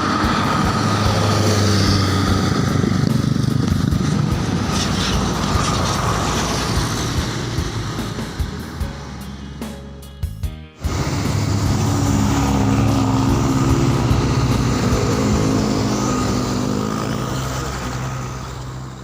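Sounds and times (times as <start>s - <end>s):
bus passing by: 0.0s - 10.2s, 10.8s - 19.0s.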